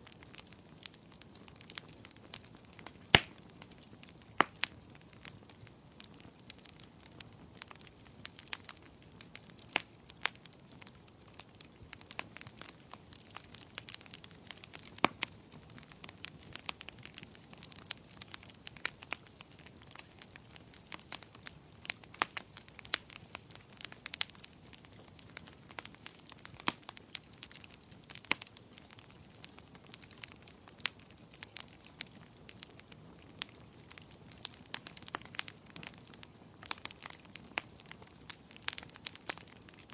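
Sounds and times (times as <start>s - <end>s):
low hiss of burning: 0.0s - 39.9s
wood fire crackling and popping: 0.0s - 39.9s.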